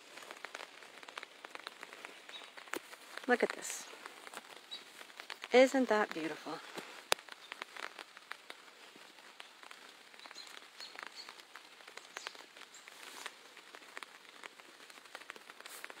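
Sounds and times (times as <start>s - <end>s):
light rain pattering: 0.0s - 16.0s.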